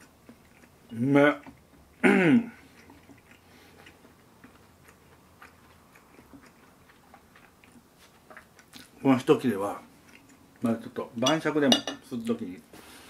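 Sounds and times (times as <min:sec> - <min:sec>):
person chewing: 0:00.0 - 0:10.8.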